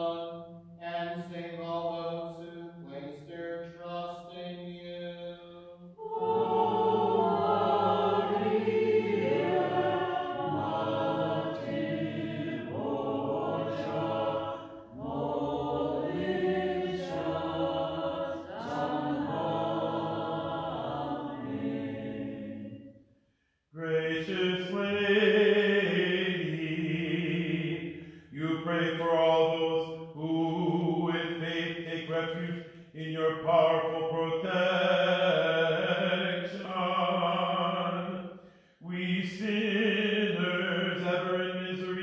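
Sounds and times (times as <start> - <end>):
group of voices singing: 6.0 - 22.8, 23.8 - 42.0.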